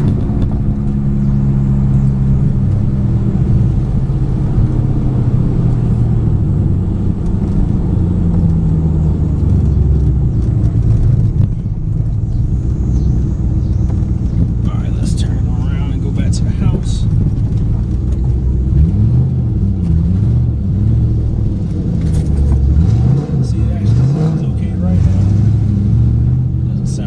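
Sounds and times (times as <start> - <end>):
misfiring car engine rumble: 0.0 - 27.0.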